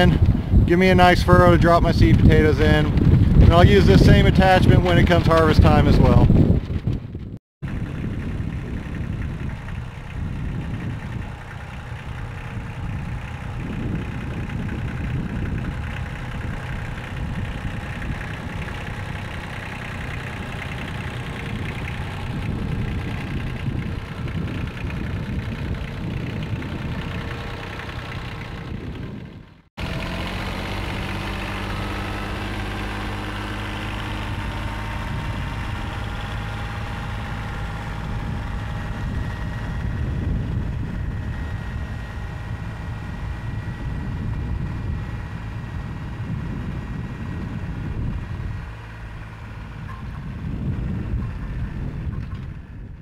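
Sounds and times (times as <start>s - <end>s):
tractor engine under load: 0.0s - 53.0s
wind buffeting microphone: 0.0s - 53.0s.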